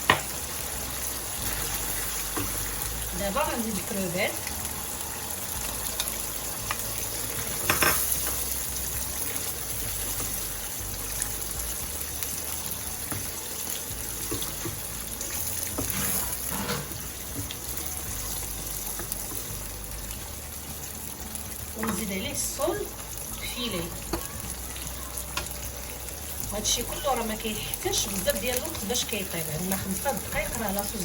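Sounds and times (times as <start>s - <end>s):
sauce simmering and sizzling in a pan: 0.0s - 31.0s.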